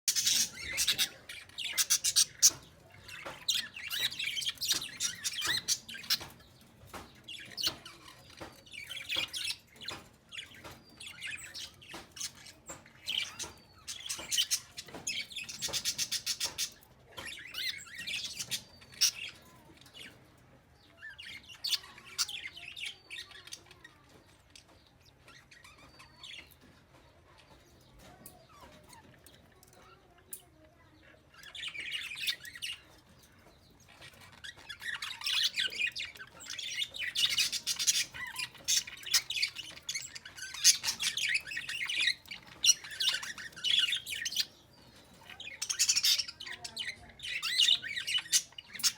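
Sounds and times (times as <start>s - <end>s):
small bird chirping: 0.0s - 48.9s.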